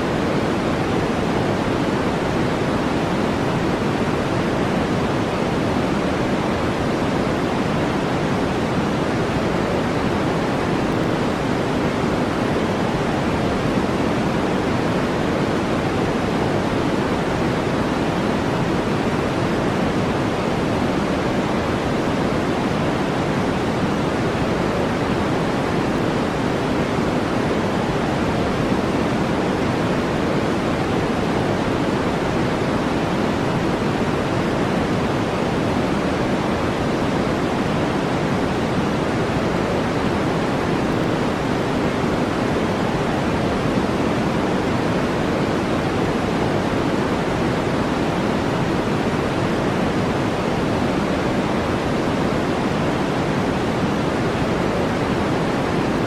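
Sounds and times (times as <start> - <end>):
brown noise: 0.0 - 56.0.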